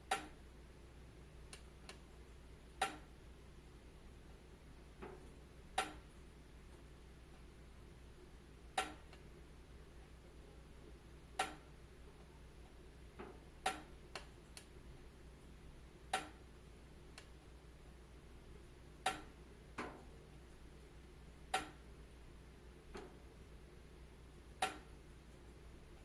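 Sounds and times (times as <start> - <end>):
faint low hiss and hum: 0.0 - 26.0.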